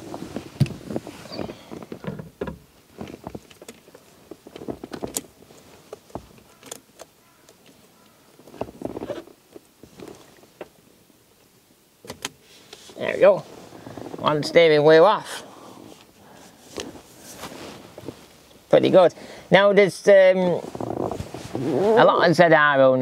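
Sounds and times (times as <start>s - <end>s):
rustling: 0.0s - 10.7s, 12.4s - 22.5s.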